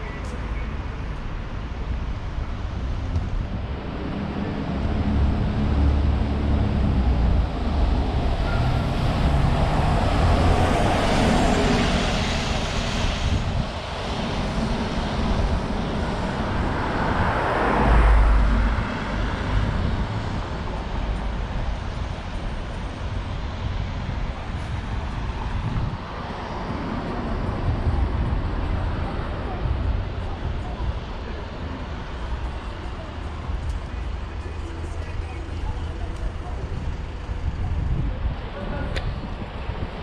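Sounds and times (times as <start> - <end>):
cars passing: 0.0 - 40.0
deep vehicle rumble: 0.0 - 40.0
low traffic rumble: 0.0 - 40.0.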